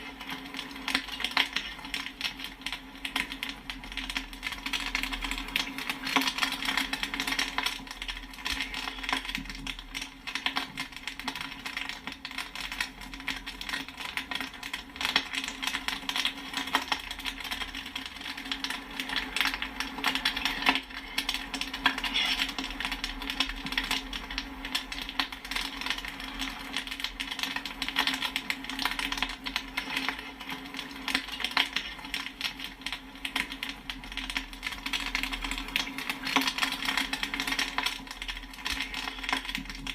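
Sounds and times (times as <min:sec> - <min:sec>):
popcorn popping: 0:00.0 - 0:39.9.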